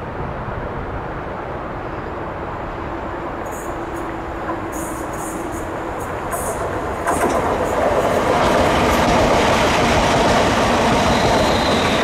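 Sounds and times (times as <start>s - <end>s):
train passing on track: 0.0s - 12.0s.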